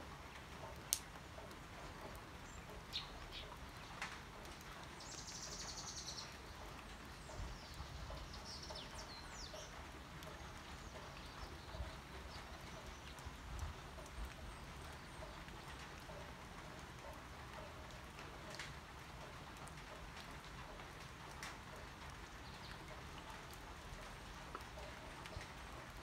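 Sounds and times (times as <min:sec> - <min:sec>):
light rain on leaves: 0:00.0 - 0:26.0.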